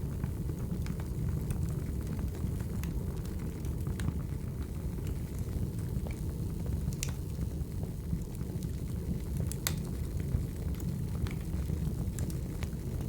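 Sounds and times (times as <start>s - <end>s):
wood fire burning: 0.0s - 13.0s.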